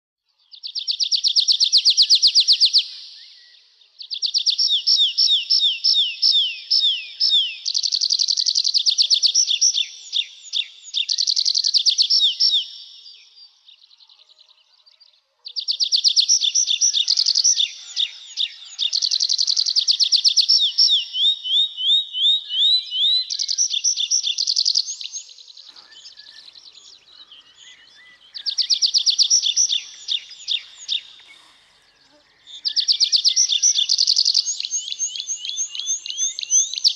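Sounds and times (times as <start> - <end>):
nightingale singing: 0.3 - 36.9.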